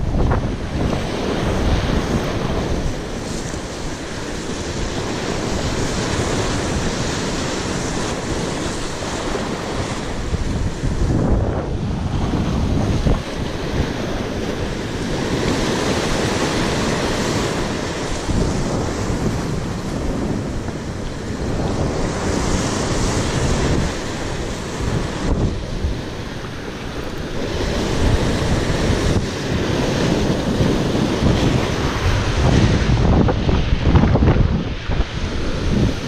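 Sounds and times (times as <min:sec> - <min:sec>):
surf breaking over rocks: 0:00.0 - 0:36.0
wind buffeting microphone: 0:00.0 - 0:36.0.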